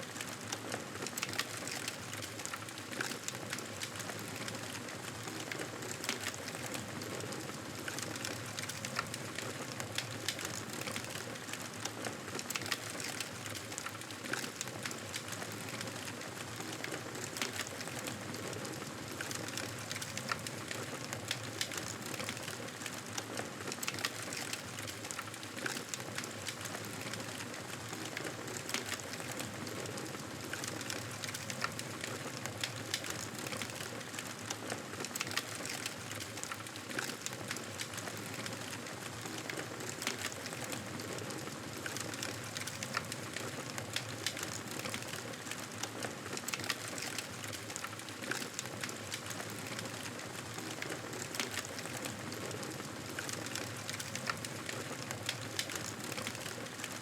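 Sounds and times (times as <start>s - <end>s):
fire crackling and popping: 0.1s - 57.0s.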